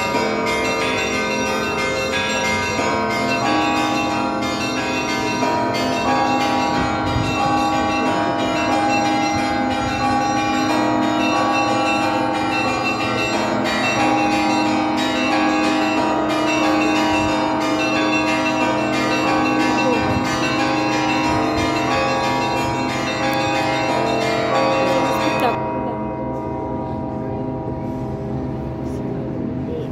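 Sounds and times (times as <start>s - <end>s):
church bells pealing: 0.0s - 29.9s.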